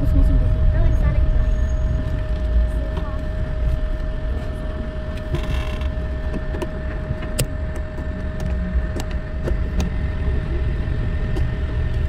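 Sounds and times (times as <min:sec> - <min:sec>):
car engine and road noise: 0:00.0 - 0:12.0
thin steady whine: 0:00.0 - 0:12.0.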